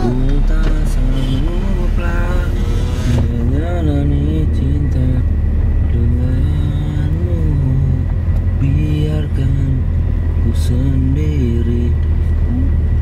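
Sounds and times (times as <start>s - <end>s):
song with singing voice: 0.0s - 12.9s
car cabin rumble: 0.0s - 13.0s.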